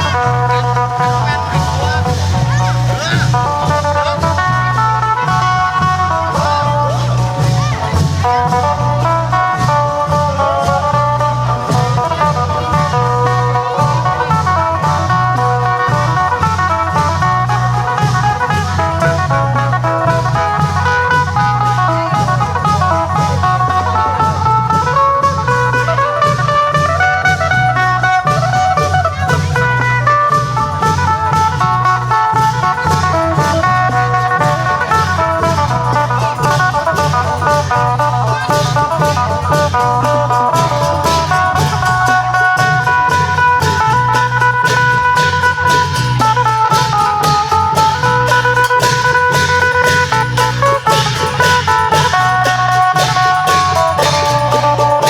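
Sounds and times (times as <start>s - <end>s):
plucked lute melody: 0.0s - 55.0s
steady drum beat: 0.0s - 55.0s.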